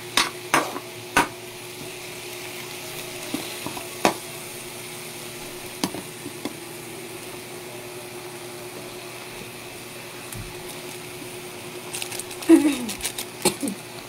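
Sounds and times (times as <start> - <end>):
chicken sizzling in a wok: 0.0 - 14.0.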